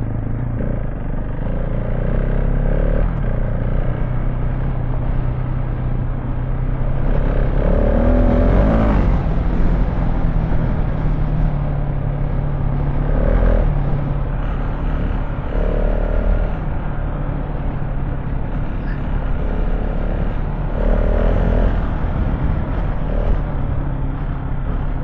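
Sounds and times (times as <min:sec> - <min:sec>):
motorcycle engine running: 0:00.0 - 0:25.0
wind noise: 0:04.1 - 0:25.0.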